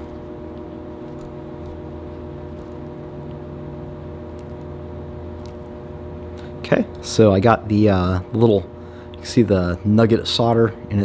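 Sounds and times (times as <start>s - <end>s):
steady machinery hum: 0.0s - 11.0s.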